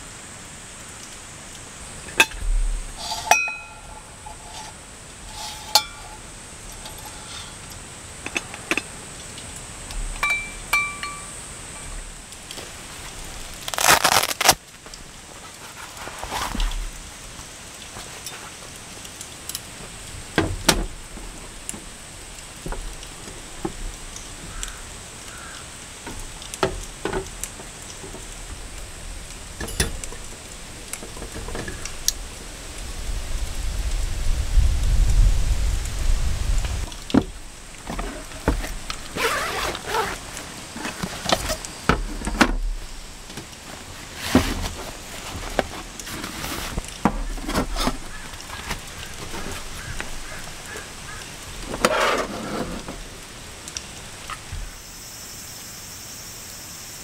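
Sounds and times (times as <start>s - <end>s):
steady rain: 0.0s - 57.0s
camping gear being handled: 1.0s - 32.3s, 36.7s - 53.2s.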